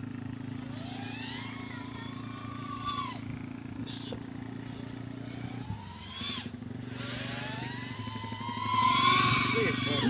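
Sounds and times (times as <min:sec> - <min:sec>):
quadcopter motors whining: 0:00.0 - 0:10.0
steady low hum: 0:00.0 - 0:10.0.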